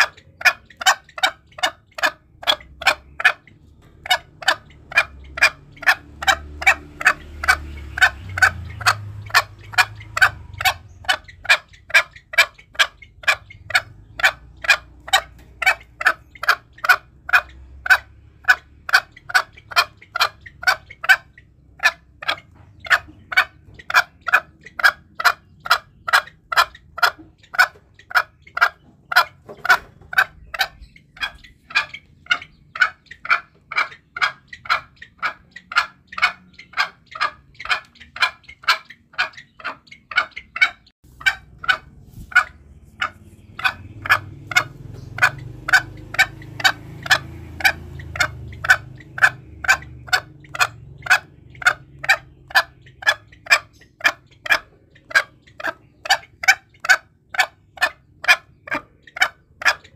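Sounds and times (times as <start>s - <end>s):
junglefowl clucking calls: 0.0s - 59.9s.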